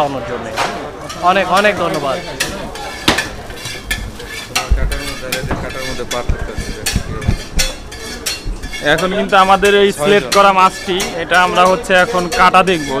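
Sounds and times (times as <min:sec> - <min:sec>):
metal utensils clattering: 0:00.0 - 0:13.0.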